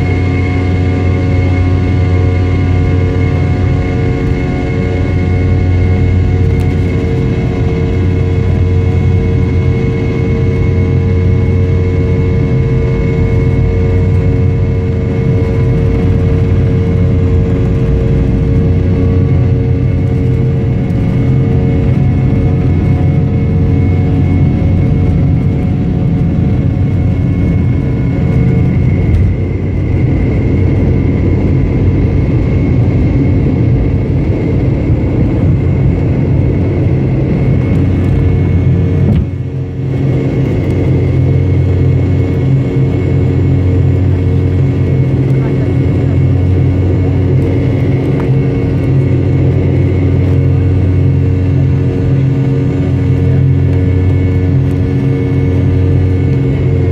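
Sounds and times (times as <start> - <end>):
jet engines hum and whine: 0.0 - 56.9.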